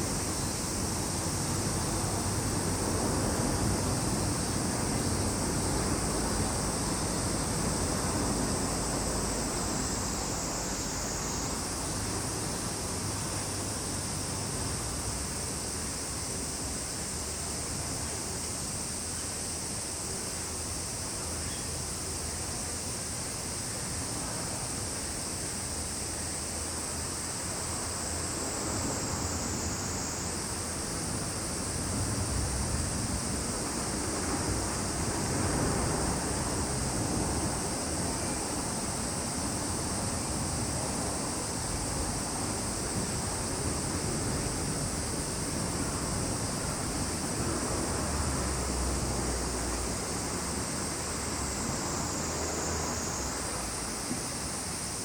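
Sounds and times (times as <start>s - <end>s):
cicadas droning: 0.0s - 55.0s.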